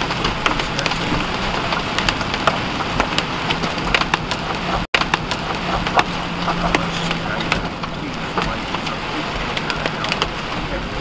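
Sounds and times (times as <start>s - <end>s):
hailstones hitting vehicle: 0.0s - 11.0s
heavy rain on vehicle roof: 0.0s - 11.0s.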